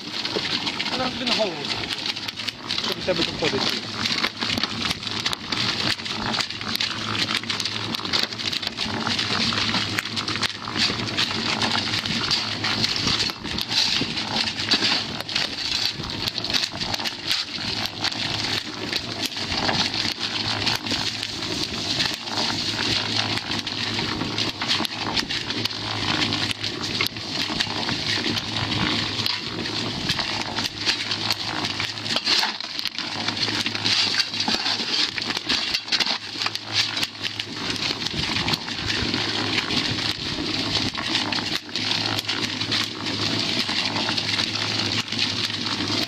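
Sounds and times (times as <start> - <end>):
concrete mixer gritty rattle: 0.0 - 46.0
mixer hum: 0.0 - 46.0.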